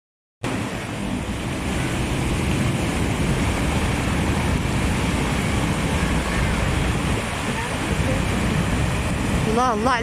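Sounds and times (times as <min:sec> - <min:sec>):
boat engine rumble: 0:00.4 - 0:10.0
water: 0:00.4 - 0:10.0
wind buffeting microphone: 0:00.5 - 0:10.0.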